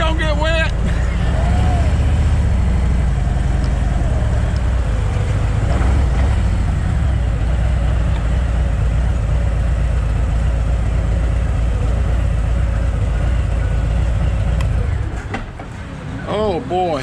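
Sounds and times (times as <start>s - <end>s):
motorcycle engine cruising: 0.0s - 17.0s
wind and road noise: 0.0s - 17.0s.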